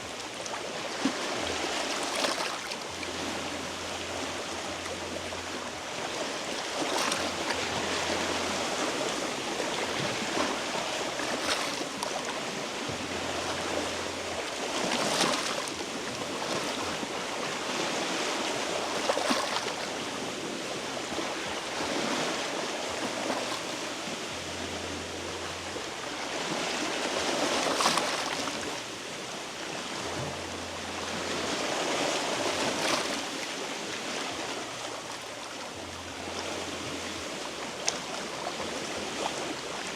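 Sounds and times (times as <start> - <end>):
sea waves washing over rocks: 0.0 - 39.9
wave splashing: 0.0 - 39.9.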